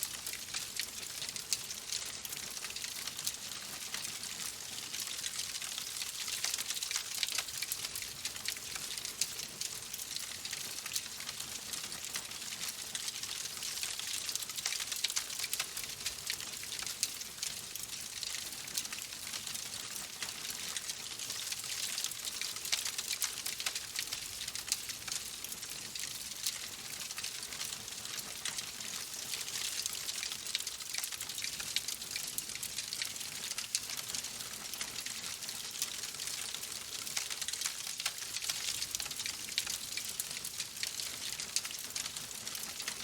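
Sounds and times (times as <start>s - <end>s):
wood fire crackling and popping: 0.2s - 19.1s, 19.7s - 43.0s.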